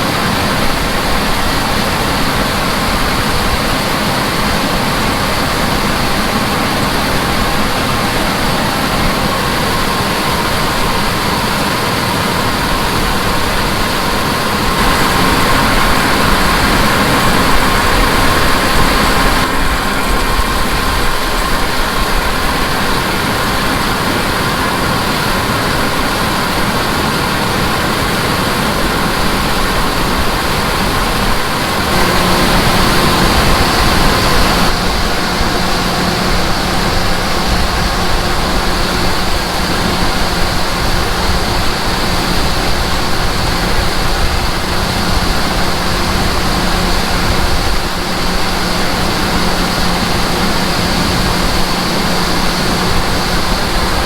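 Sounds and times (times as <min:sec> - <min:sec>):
dense rushing noise: 0:00.0 - 0:54.0
harvest machinery engine drone: 0:00.0 - 0:54.0
low hum: 0:00.0 - 0:54.0.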